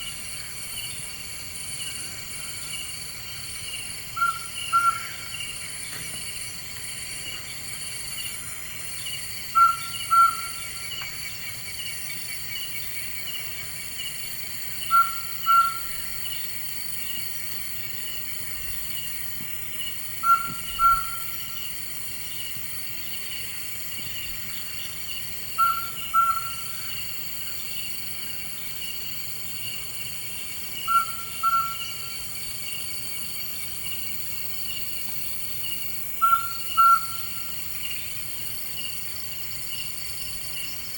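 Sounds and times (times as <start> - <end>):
insect chirring: 0.0 - 40.9
night bird calling: 1.8 - 6.2, 7.0 - 16.5, 19.8 - 34.4, 36.0 - 40.9.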